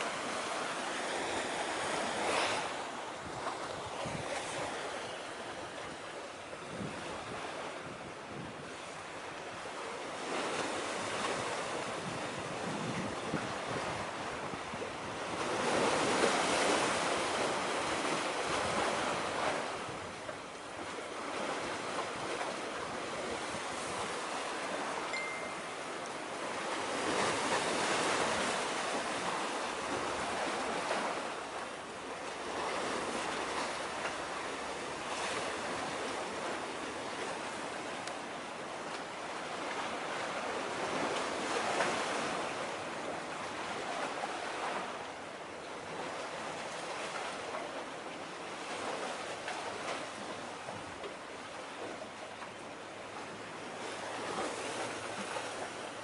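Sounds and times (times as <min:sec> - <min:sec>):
waves washing against breakwater: 0:00.0 - 0:56.0
wind: 0:00.0 - 0:56.0.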